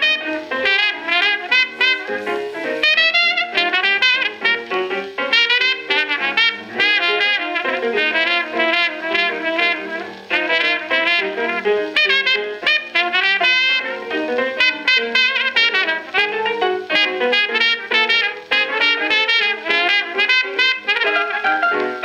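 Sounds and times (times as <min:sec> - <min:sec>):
piano chords: 0:00.0 - 0:22.0
trumpet with vibrato: 0:00.0 - 0:22.0.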